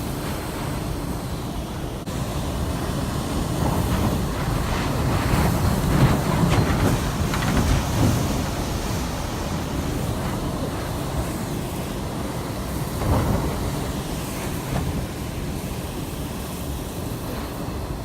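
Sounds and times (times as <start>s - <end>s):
strong wind gusts: 0.0s - 18.0s.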